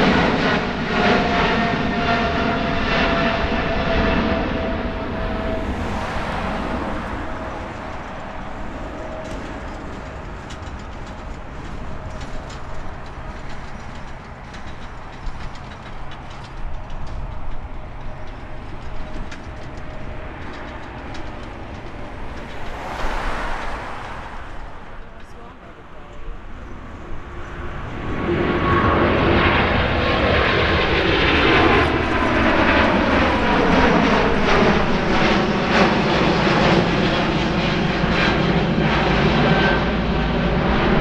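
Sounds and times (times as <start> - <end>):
jet airliner engines at takeoff: 0.0 - 41.0.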